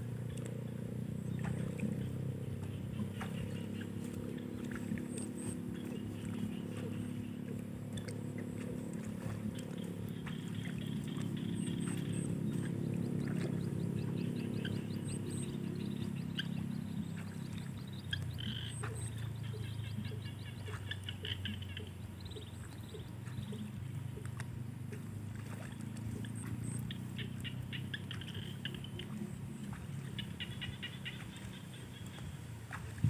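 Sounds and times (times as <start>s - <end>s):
frogs croaking: 0.0s - 33.0s
steady low drone: 0.0s - 33.0s.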